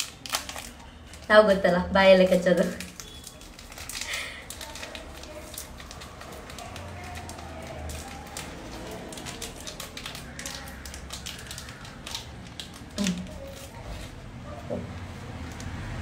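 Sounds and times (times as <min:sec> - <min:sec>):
plastic packet crinkling: 0:00.0 - 0:14.3.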